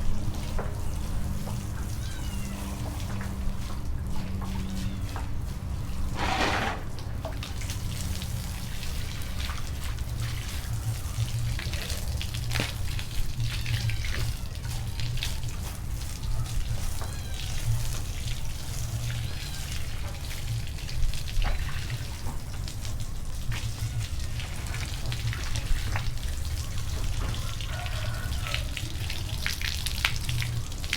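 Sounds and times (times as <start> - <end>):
water splashing and trickling: 0.0 - 30.9.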